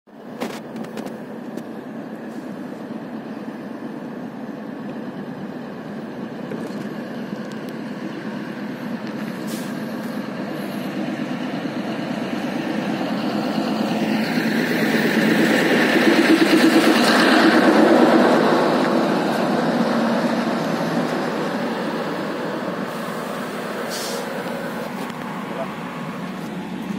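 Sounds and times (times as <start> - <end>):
train approaching: 0.1 - 26.9.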